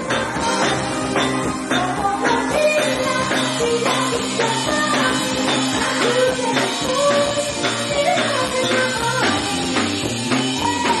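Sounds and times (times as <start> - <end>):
electric guitar: 0.0 - 11.0
woman singing: 0.0 - 11.0.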